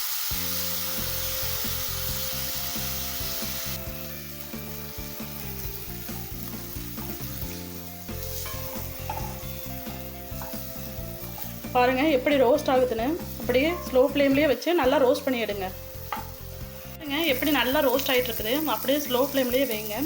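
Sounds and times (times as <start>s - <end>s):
sweetcorn sizzling in hot oil: 0.0s - 20.0s.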